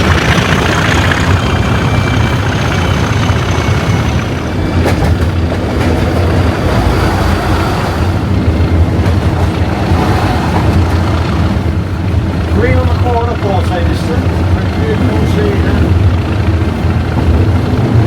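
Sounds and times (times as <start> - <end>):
locomotive diesel engine rumbling: 0.0 - 18.0.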